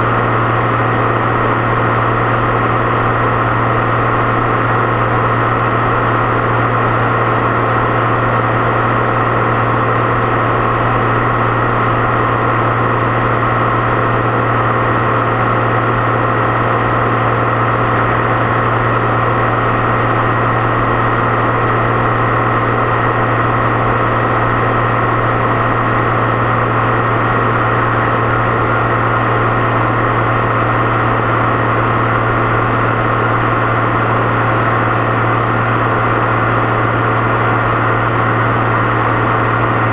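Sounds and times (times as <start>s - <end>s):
high turbo whine: 0.0s - 39.9s
tractor diesel engine drone: 0.0s - 39.9s.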